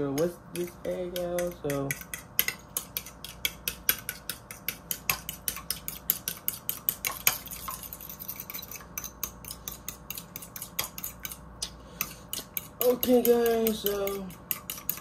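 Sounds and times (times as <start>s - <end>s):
fork beating egg in bowl: 0.0s - 15.0s.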